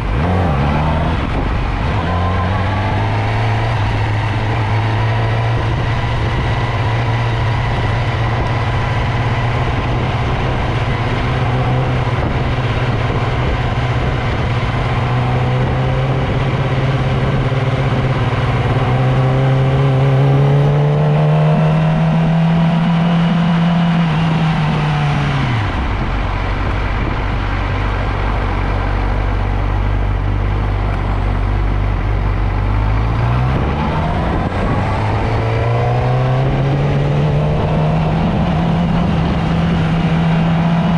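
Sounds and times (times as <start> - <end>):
motorcycle engine: 0.0 - 40.9
road and wind noise: 0.0 - 40.9.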